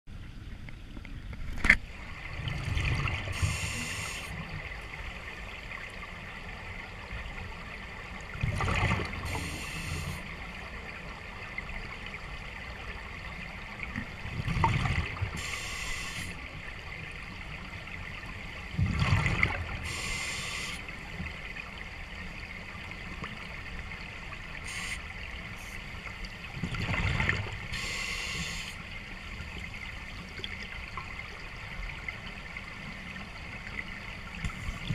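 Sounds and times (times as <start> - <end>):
water gurgling: 1.2 - 34.9
water surging with hiss: 1.8 - 34.9.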